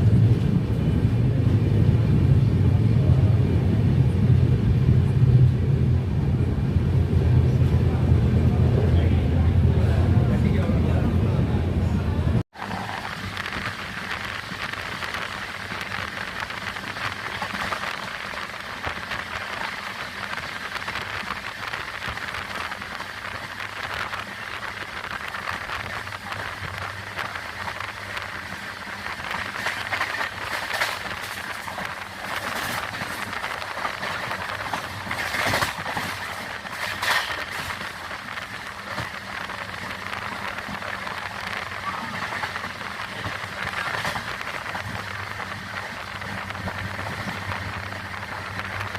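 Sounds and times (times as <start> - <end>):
train clattering: 0.0 - 48.9
train wheels rumbling on rails: 0.0 - 48.9.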